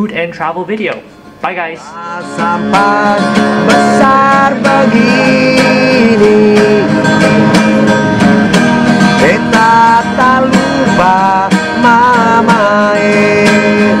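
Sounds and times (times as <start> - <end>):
guitar background music: 1.1 - 14.0.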